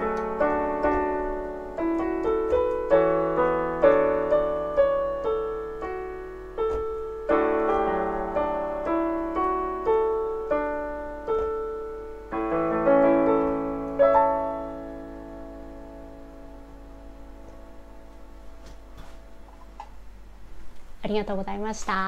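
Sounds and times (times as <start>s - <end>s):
solo piano piece: 0.0s - 20.5s.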